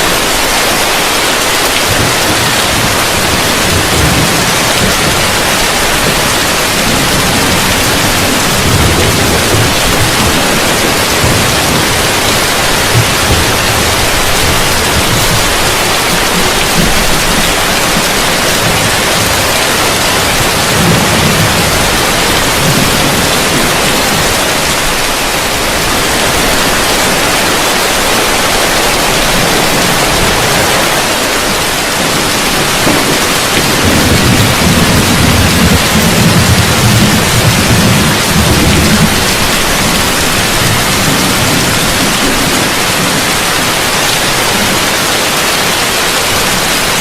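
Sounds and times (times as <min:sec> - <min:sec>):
heavy rain on a roof: 0:00.0 - 0:47.0
thunder rumble: 0:00.1 - 0:47.0.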